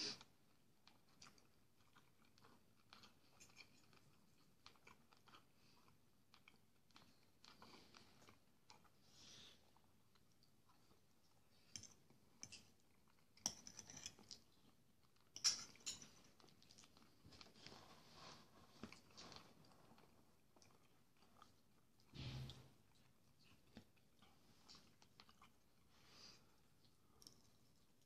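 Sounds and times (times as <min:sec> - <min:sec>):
man chewing food: 0:00.1 - 0:28.0.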